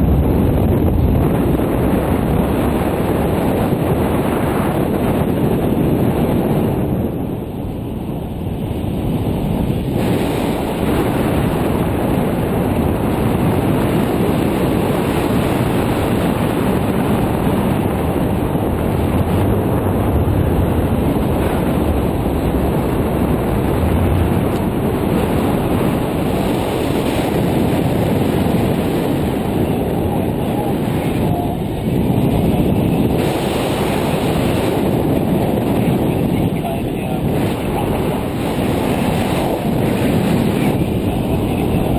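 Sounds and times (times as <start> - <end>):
wind rumble on microphone: 0.0 - 41.9.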